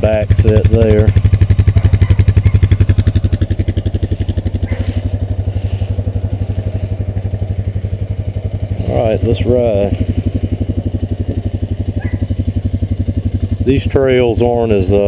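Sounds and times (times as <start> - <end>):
atv engine idling: 0.0 - 15.0.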